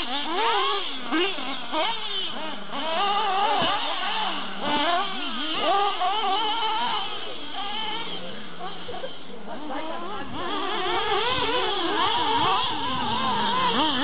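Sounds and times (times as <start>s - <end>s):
rc car engine revving: 0.0s - 14.0s.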